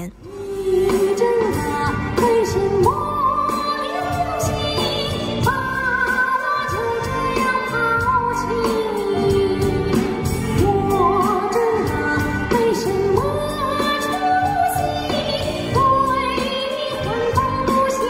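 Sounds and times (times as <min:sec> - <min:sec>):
pop band with bass and beat: 0:00.0 - 0:18.0.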